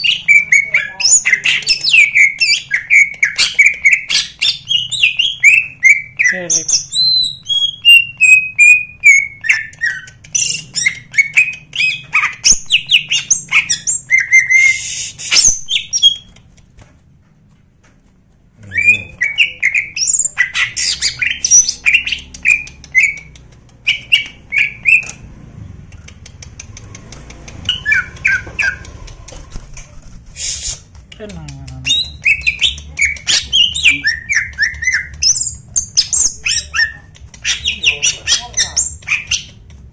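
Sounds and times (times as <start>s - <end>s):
bird singing rapid varied phrases: 0.0s - 16.4s, 18.6s - 29.6s, 30.3s - 39.9s.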